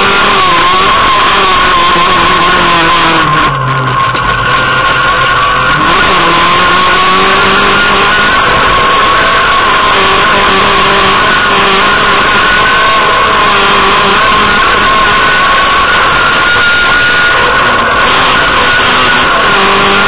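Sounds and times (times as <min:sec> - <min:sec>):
car engine at high revs: 0:00.0 - 0:20.0
road and cabin noise: 0:00.0 - 0:20.0.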